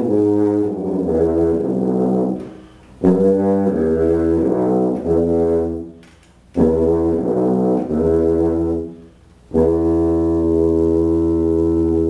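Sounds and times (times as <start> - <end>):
tuba playing: 0.0 - 12.0.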